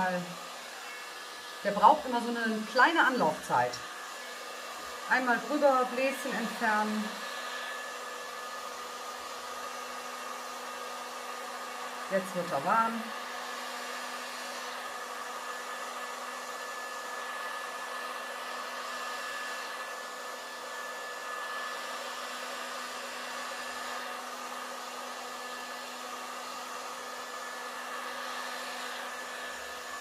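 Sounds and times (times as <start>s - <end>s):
heat gun running: 0.0s - 30.0s.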